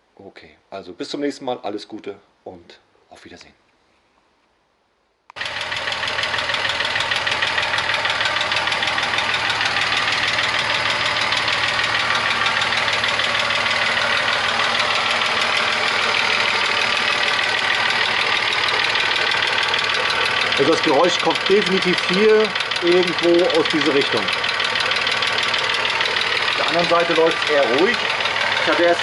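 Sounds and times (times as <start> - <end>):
car engine idling: 5.3 - 29.0.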